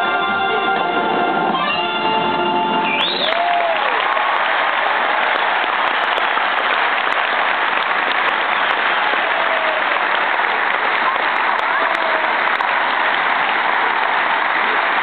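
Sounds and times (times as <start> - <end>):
audience applauding: 2.8 - 15.0
audience cheering: 2.8 - 15.0.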